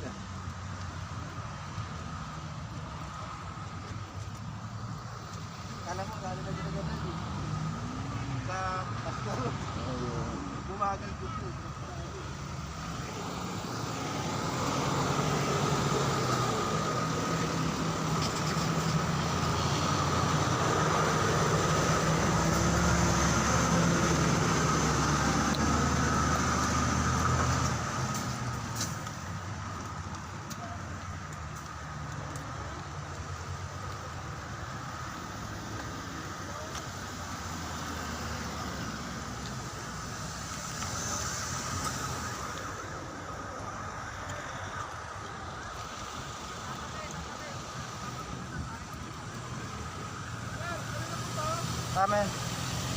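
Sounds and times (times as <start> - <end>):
moving vehicle engine and tyres: 0.0 - 52.9.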